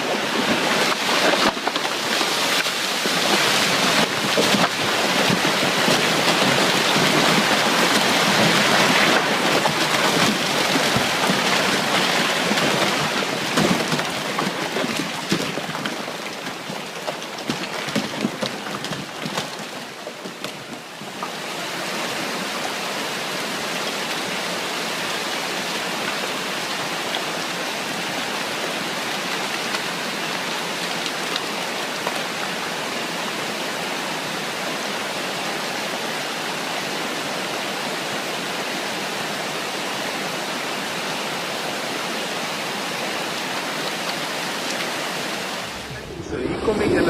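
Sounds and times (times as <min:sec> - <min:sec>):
rushing water: 0:00.0 - 0:47.0.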